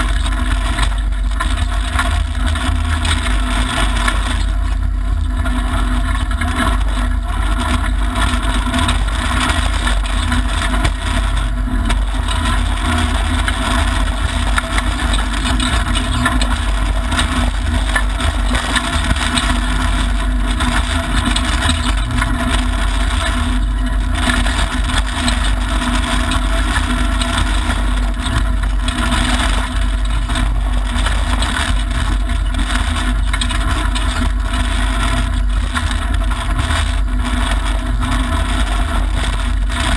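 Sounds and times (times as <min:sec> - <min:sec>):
car engine running: 0:00.0 - 0:39.9
tyre and gravel road noise: 0:00.0 - 0:39.9.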